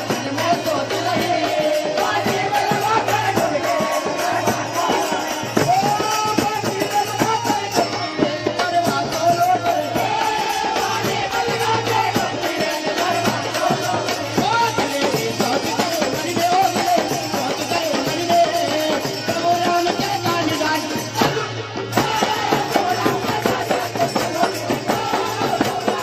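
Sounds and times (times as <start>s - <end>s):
frame drum and dholak rhythm: 0.0s - 26.0s.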